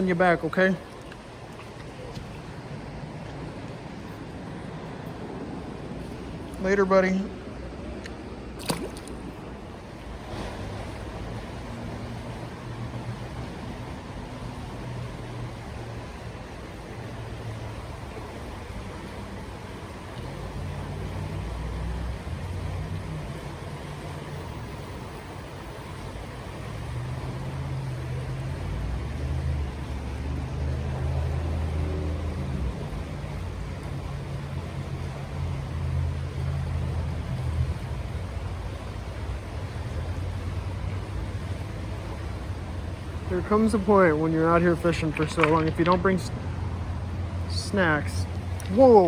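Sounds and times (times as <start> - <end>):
creek rushing: 0.0 - 49.0
traffic hum: 0.0 - 49.0.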